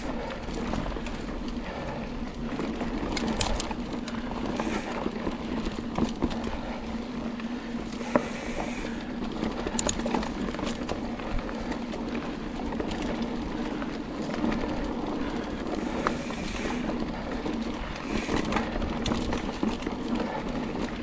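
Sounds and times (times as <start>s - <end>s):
bike clattering over bumps: 0.0s - 21.0s
bike tires rolling over dirt: 0.0s - 21.0s.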